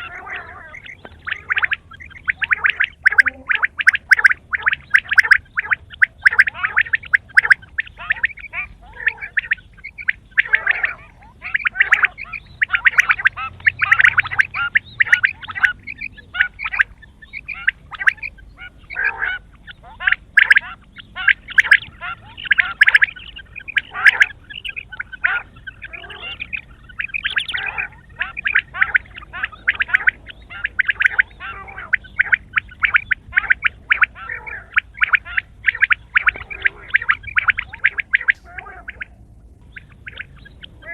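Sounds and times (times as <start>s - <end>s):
quail calling: 0.0s - 40.9s.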